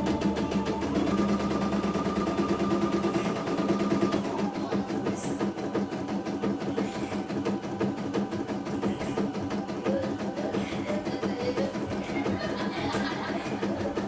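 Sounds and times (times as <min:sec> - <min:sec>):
embroidery machine needle stitching: 0:00.0 - 0:14.0
steady motor hum: 0:00.0 - 0:14.0.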